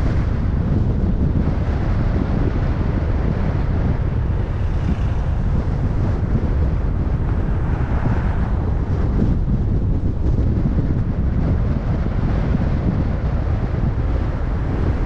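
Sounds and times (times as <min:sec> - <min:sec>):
car driving rumble: 0:00.0 - 0:15.0
wind buffeting microphone: 0:00.0 - 0:15.0.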